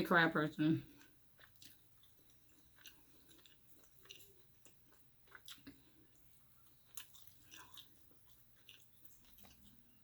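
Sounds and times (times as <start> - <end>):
person chewing with mouth clicks: 0.9 - 10.0.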